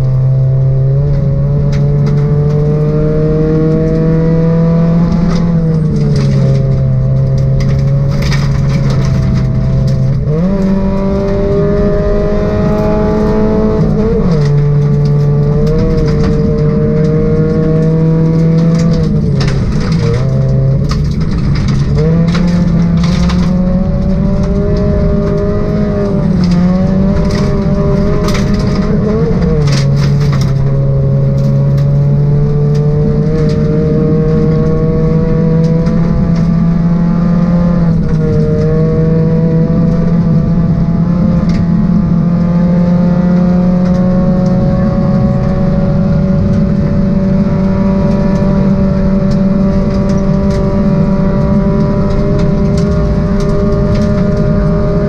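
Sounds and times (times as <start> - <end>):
gravel rattling against car underside: 0.0 - 55.0
rally car engine at high revs: 0.0 - 55.0.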